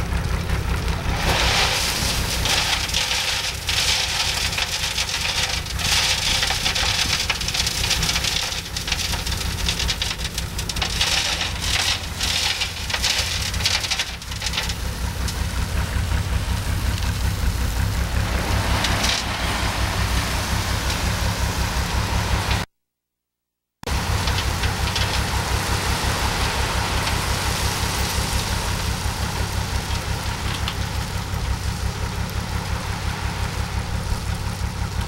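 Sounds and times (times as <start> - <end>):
gravel sliding out of truck: 0.0 - 22.7, 23.9 - 35.0
truck engine rumble: 0.0 - 22.7, 23.8 - 35.0.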